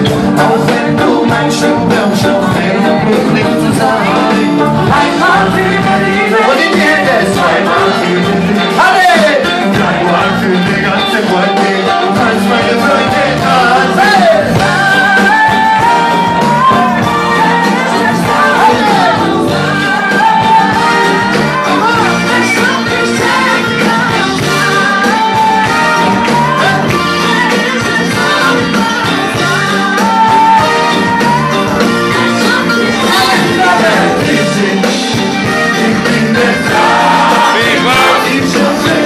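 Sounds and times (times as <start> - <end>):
live pop-rock band playing: 0.0 - 39.0.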